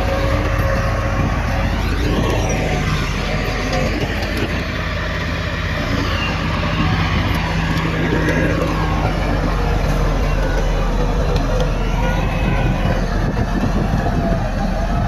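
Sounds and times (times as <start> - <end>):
diesel machinery engine drone: 0.0 - 15.0.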